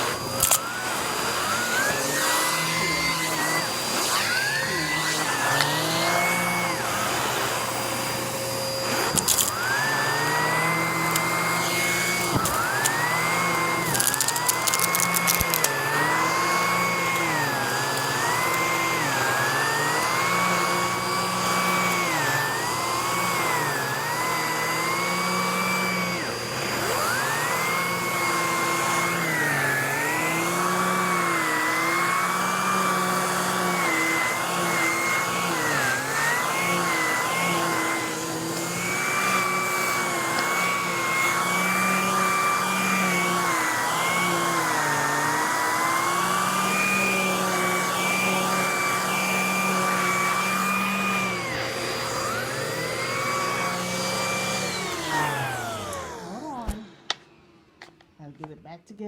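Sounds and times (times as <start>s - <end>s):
vacuum cleaner running: 0.0s - 58.2s.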